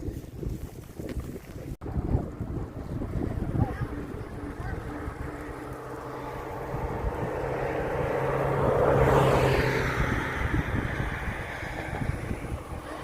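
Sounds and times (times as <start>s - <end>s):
vehicle passing by: 1.9s - 13.0s.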